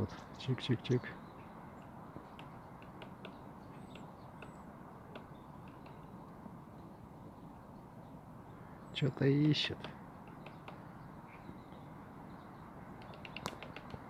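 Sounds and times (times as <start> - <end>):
woodpecker tapping on wood: 0.0 - 8.0, 9.5 - 14.0.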